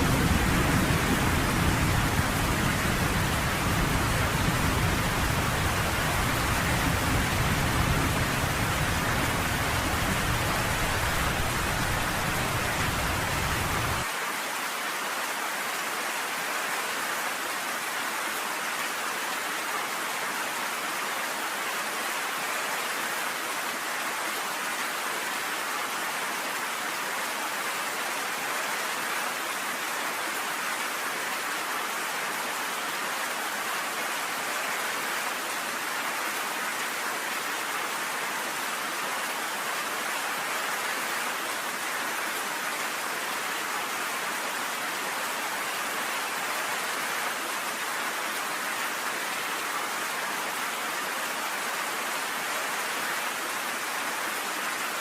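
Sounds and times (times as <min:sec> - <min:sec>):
rain falling on a porch: 0:00.0 - 0:55.0.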